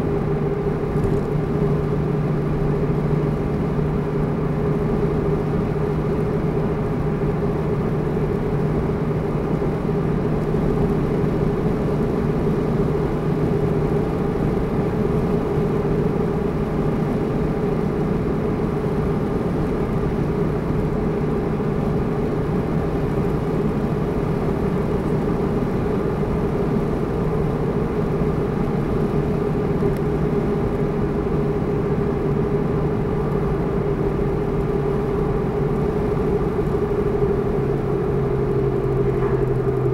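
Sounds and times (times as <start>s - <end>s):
car engine and road noise drone: 0.0s - 39.9s.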